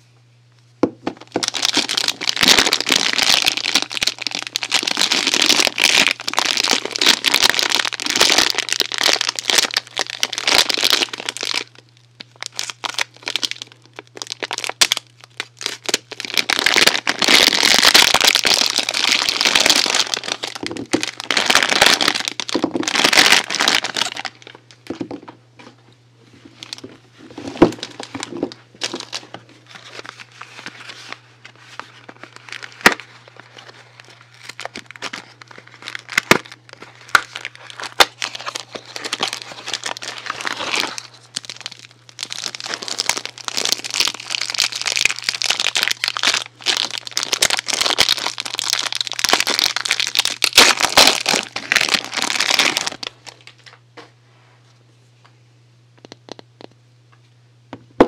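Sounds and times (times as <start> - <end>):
steady low hum: 0.0 - 58.0
packaging crinkling: 1.1 - 25.4, 26.4 - 53.8.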